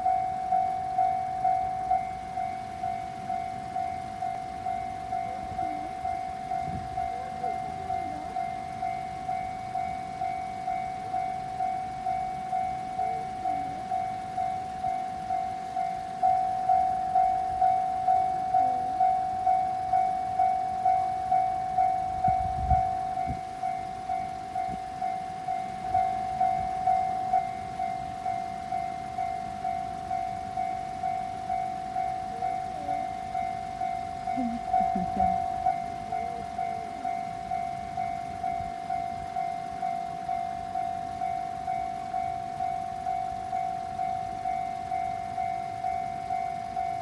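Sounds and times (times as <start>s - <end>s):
level crossing bell ringing: 0.0s - 47.0s.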